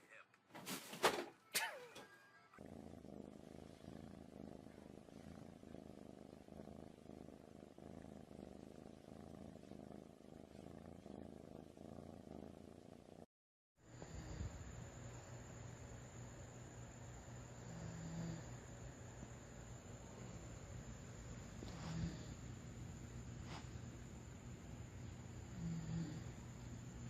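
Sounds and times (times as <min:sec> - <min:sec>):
faint low hum: 0:00.0 - 0:13.2, 0:13.9 - 0:27.0
cat purring: 0:02.5 - 0:27.0.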